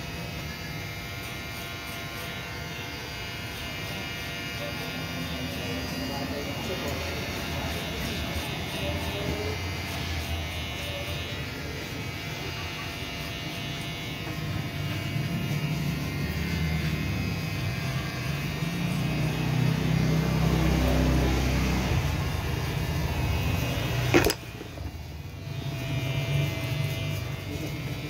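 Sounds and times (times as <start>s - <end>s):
electric hair clippers buzzing: 0.0s - 28.0s.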